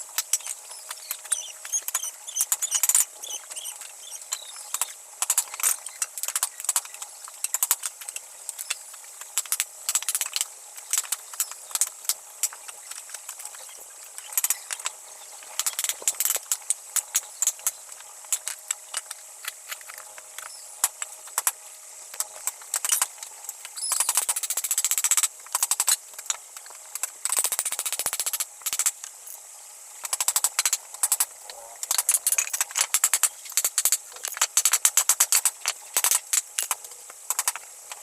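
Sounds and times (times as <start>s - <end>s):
sharp woodworking clicks and taps: 0.1s - 15.0s, 15.6s - 29.2s, 30.0s - 38.0s.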